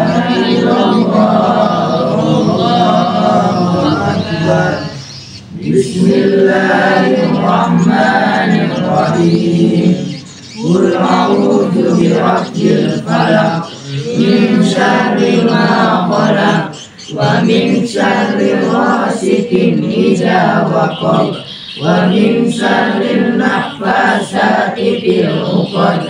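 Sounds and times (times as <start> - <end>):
group chanting in unison: 0.0 - 26.0.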